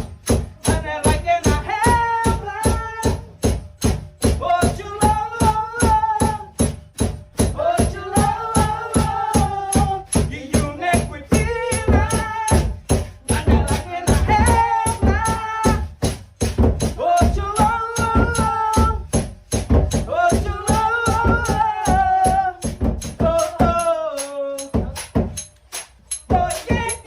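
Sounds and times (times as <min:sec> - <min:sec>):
music with fast beat: 0:00.0 - 0:27.0
shaker-like percussion: 0:00.0 - 0:27.0.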